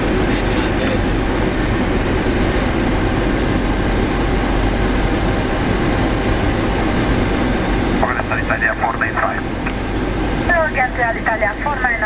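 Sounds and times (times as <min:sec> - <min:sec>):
rushing airflow and jet engines: 0:00.0 - 0:12.0.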